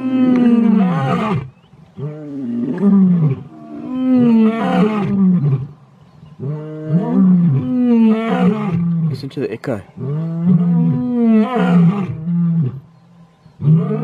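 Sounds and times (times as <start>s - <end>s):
lion roaring: 0.0s - 5.8s, 6.4s - 9.3s, 10.0s - 12.9s, 13.6s - 14.0s.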